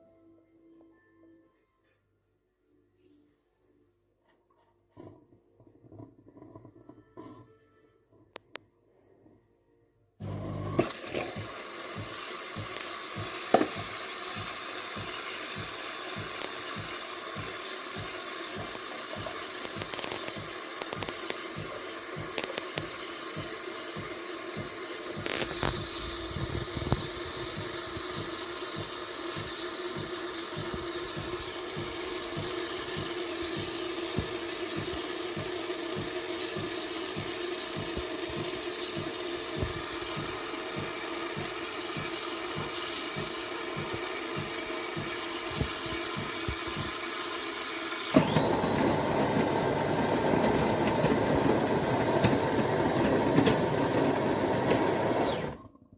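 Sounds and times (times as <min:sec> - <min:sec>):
coffee machine pump running: 0:10.2 - 0:55.7.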